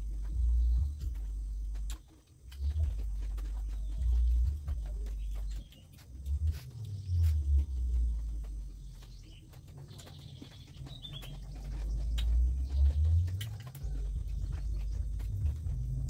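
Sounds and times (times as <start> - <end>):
bird chirp: 0.0 - 16.0
low rumble: 0.0 - 16.0.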